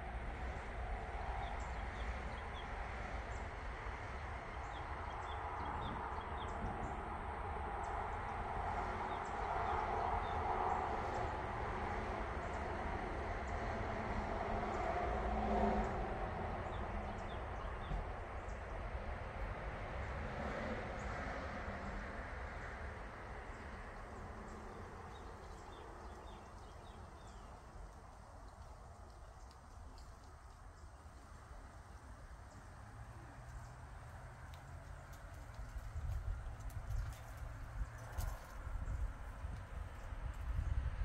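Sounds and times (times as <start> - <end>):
steady low outdoor noise: 0.0 - 41.0.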